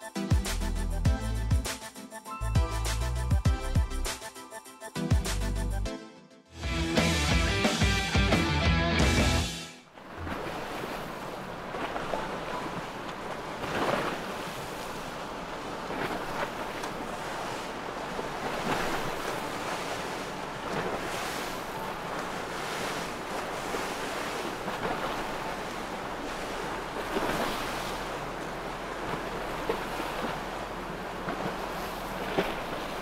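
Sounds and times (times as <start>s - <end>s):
waves washing: 6.6s - 33.0s.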